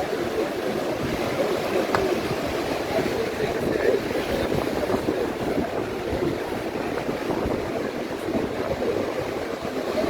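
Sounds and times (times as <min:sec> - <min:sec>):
ocean surf washing on beach: 0:00.0 - 0:10.0
wind buffeting microphone: 0:00.0 - 0:10.0.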